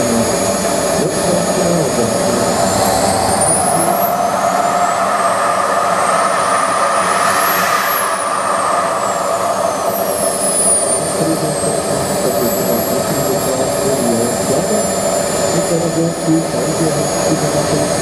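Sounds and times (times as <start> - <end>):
model jet turbine roar and whine: 0.0 - 18.0.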